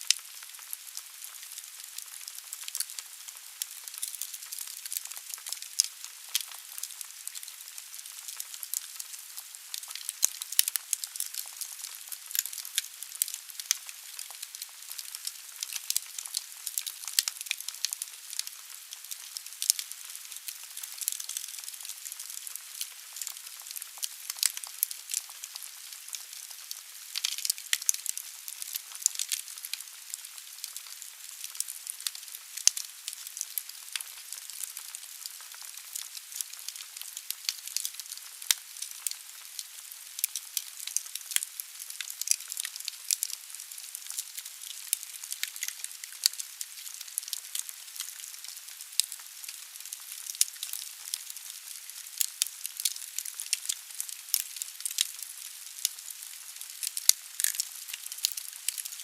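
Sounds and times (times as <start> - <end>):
wood fire crackling and popping: 0.1 - 48.4, 49.0 - 51.3, 52.0 - 59.0.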